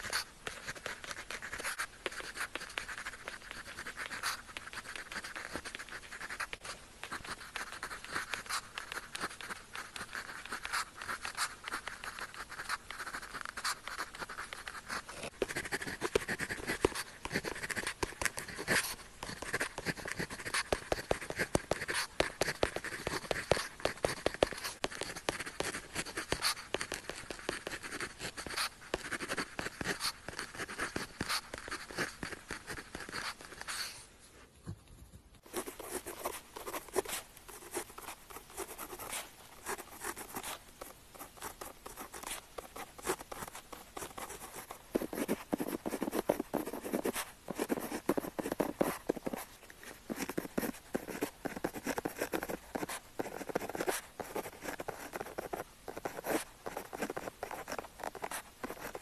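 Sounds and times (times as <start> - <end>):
pen scratching on paper: 0.0 - 34.0, 35.4 - 59.0.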